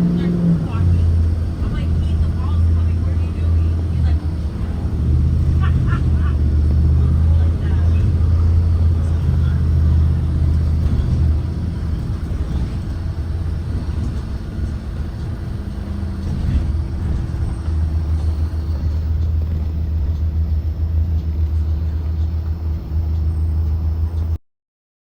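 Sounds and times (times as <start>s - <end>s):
bus engine rumbling: 0.0s - 24.4s.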